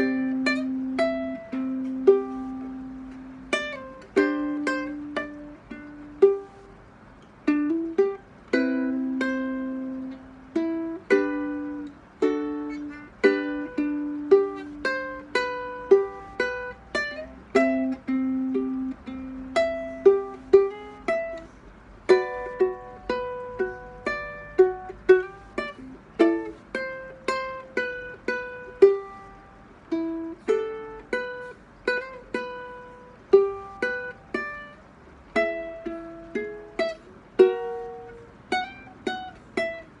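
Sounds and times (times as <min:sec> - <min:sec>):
ukulele fingerstyle melody: 0:00.0 - 0:40.0.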